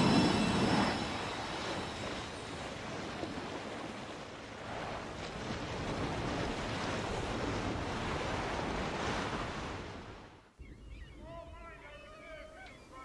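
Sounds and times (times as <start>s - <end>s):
sea waves washing: 0.0s - 10.5s
wind: 0.0s - 13.0s.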